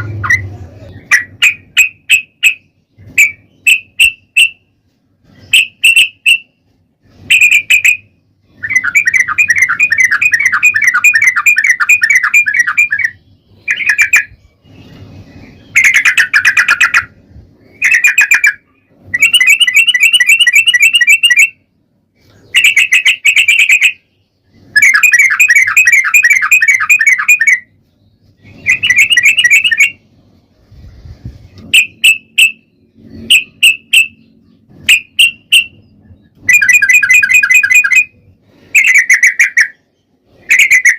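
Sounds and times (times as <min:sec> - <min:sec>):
bird chattering trills: 0:00.0 - 0:04.6, 0:07.2 - 0:21.6, 0:22.3 - 0:30.0, 0:31.7 - 0:40.9
bird chirps: 0:00.0 - 0:40.9.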